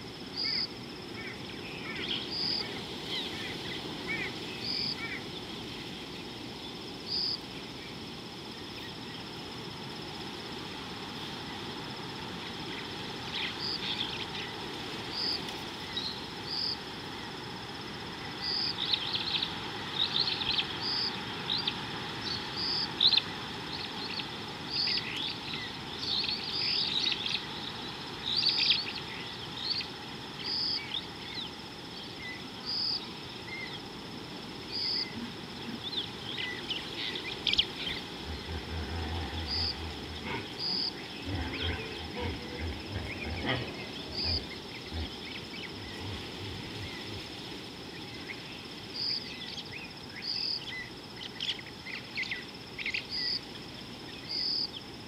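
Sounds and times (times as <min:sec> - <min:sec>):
insect hum: 0:00.0 - 0:55.0
outdoor hiss: 0:00.0 - 0:55.0
wild birds chirping: 0:00.0 - 0:55.0.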